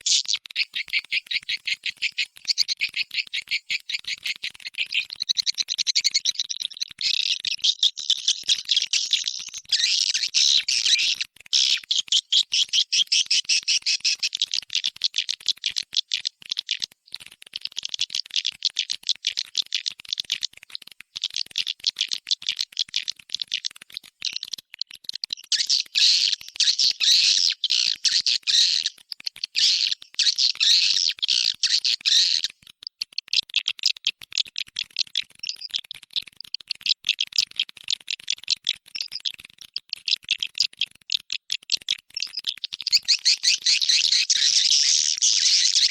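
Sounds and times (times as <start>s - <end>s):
swiftlet twittering calls: 0.0s - 45.9s.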